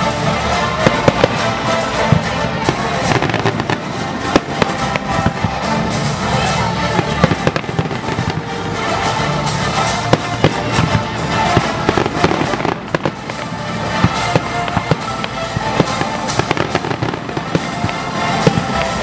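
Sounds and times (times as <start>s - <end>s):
fireworks bangs and pops: 0.0s - 19.0s
music playing: 0.0s - 19.0s.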